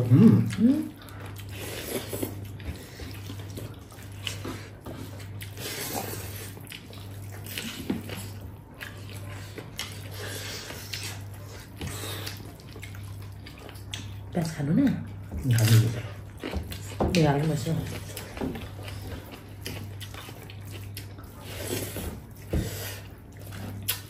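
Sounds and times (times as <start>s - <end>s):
steady low hum: 0.0s - 24.0s
wet chewing and smacking: 0.0s - 24.0s.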